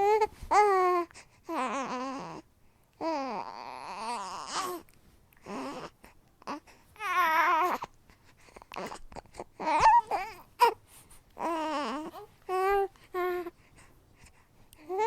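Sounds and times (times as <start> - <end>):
baby cooing and babbling: 0.0 - 7.9, 8.6 - 10.8, 11.4 - 13.6, 14.8 - 15.0.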